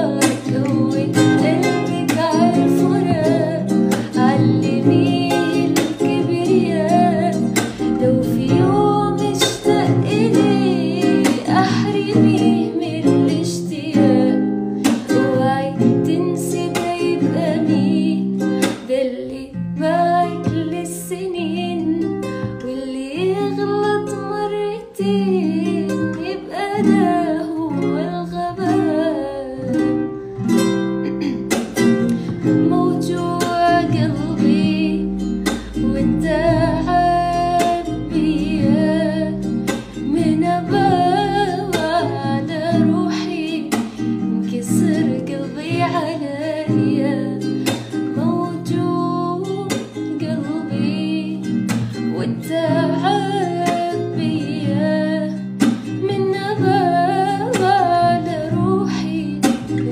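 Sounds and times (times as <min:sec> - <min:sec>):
acoustic guitar: 0:00.0 - 0:59.9
woman singing slow song: 0:00.0 - 0:59.9.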